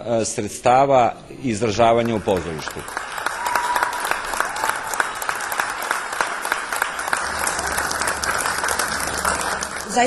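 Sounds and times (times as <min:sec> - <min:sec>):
audience applauding: 0:01.7 - 0:10.0.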